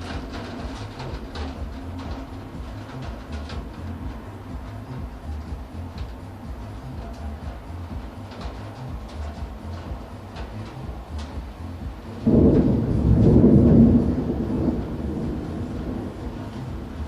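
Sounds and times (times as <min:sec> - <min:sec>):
thunder rumble: 0:00.0 - 0:17.0.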